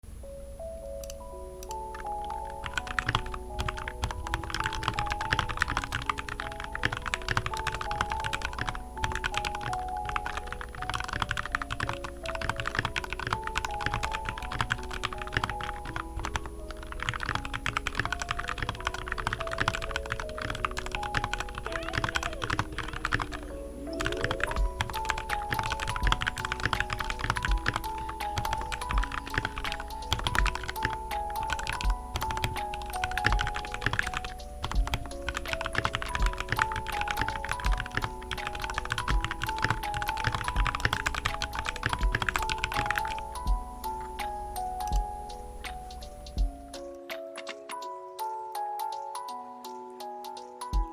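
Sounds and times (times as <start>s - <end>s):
light mallet melody music: 0.0s - 50.9s
fast mechanical keyboard typing: 1.9s - 45.1s.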